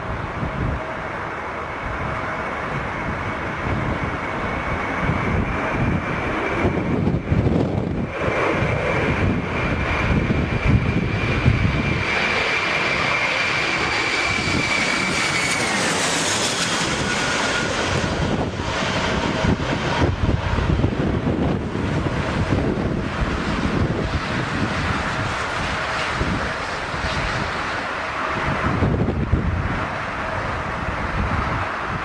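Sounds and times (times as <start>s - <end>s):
aircraft engine passing: 0.0s - 32.0s.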